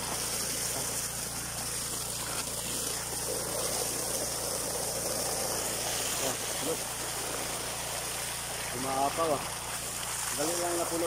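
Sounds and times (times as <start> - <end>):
water gushing into a tub: 0.0 - 11.0.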